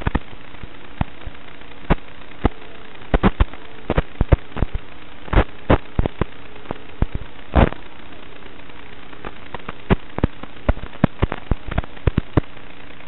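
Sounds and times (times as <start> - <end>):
crackling pops: 0.0 - 13.0
faint hum: 0.0 - 13.0
video link static hiss: 0.0 - 13.0.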